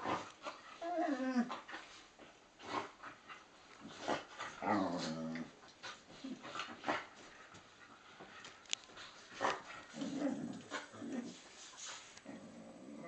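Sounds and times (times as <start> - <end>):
dogs play growling: 0.0 - 13.0.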